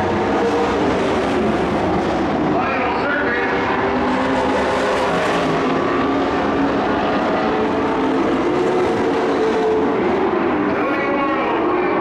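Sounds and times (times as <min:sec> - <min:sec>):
race truck engines: 0:00.0 - 0:12.0.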